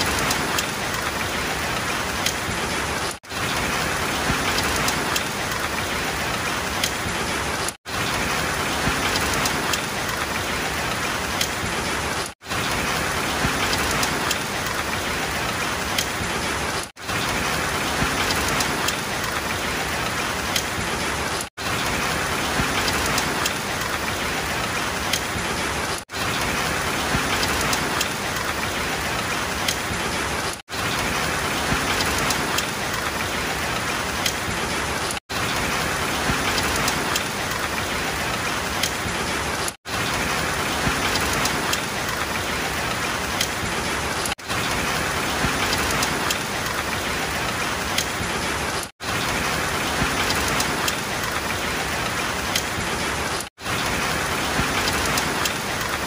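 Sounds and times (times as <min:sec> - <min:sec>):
heavy rain on asphalt and cars: 0:00.0 - 0:56.0.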